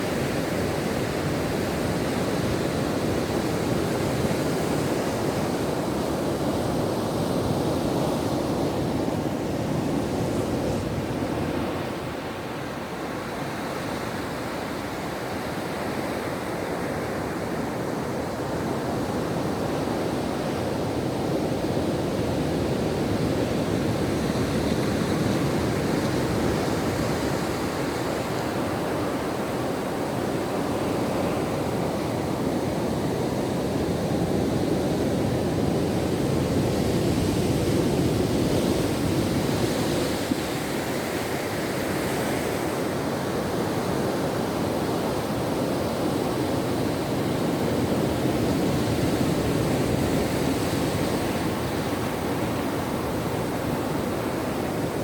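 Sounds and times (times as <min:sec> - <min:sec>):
ocean waves washing ashore: 0:00.0 - 0:55.0.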